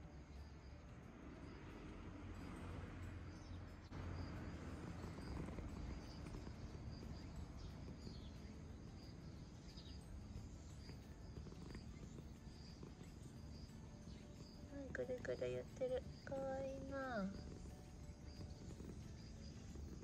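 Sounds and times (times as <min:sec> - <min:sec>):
cat purring: 0:00.0 - 0:02.8, 0:03.8 - 0:20.0
faint insects chirping: 0:00.0 - 0:20.0.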